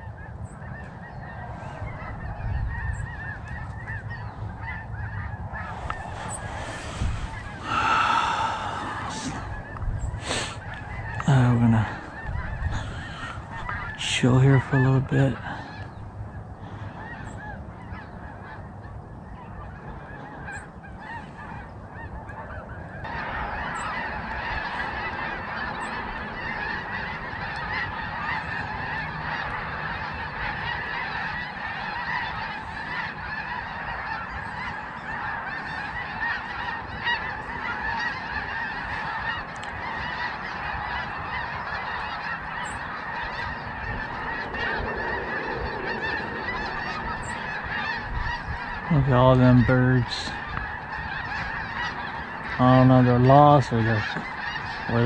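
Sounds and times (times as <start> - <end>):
geese honking overhead: 0.0 - 55.0.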